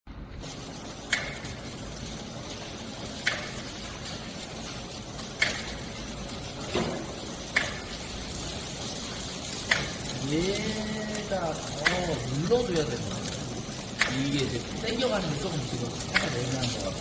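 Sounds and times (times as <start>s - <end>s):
steady machine hum: 0.1s - 17.0s
packaging machine clacking: 0.4s - 17.0s.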